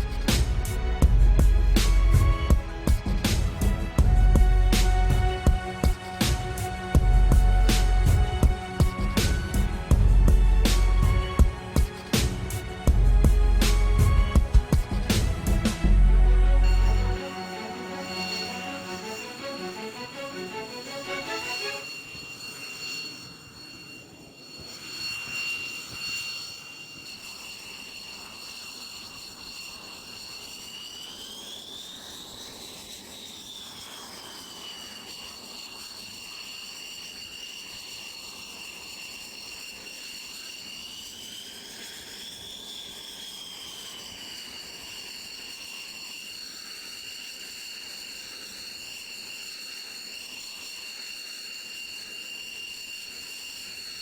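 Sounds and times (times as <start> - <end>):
jet engine turbine whine: 0.0 - 54.0.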